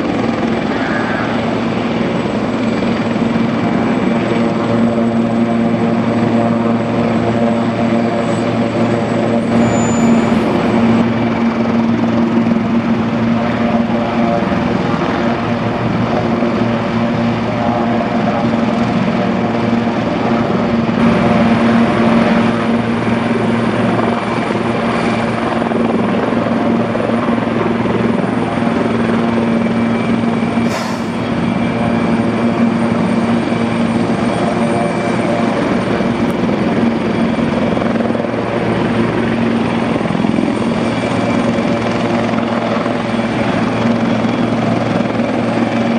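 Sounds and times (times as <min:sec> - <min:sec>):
helicopter engines and rotor: 0:00.0 - 0:45.9.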